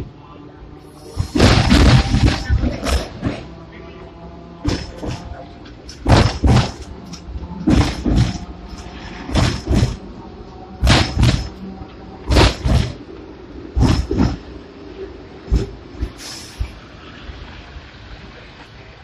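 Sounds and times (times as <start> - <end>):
low running hum: 0.0 - 16.9
tram wheels clacking over rail joints: 0.8 - 19.0.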